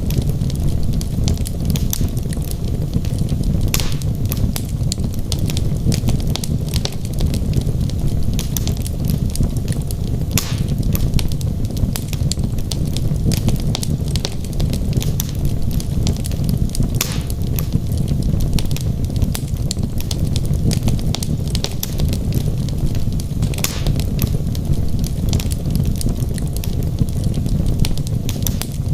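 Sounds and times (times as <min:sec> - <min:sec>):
logs crackling and snapping: 0:00.0 - 0:28.9
loud pops from fire: 0:00.0 - 0:28.9
low rumble of flames: 0:00.0 - 0:28.9.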